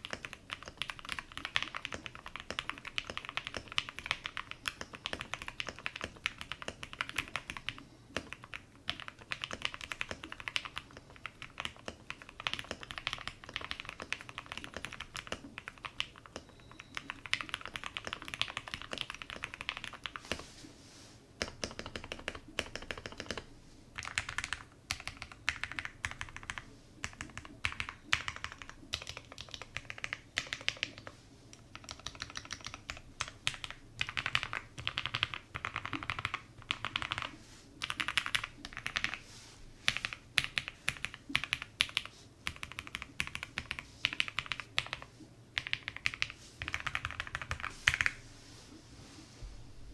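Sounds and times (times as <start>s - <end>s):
mechanical keyboard typing: 0.0s - 20.4s, 21.4s - 39.2s, 39.9s - 48.2s.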